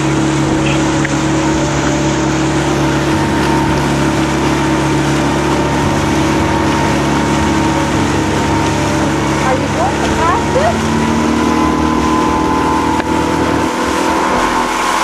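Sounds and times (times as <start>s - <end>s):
boat engine humming: 0.0s - 15.0s
water rushing past hull: 0.0s - 15.0s.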